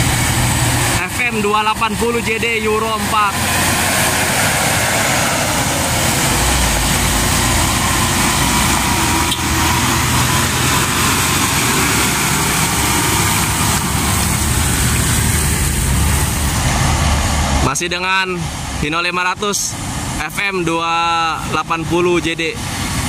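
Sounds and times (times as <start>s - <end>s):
truck diesel engine pulling uphill: 0.0s - 23.0s
tyre and road noise: 0.0s - 23.0s.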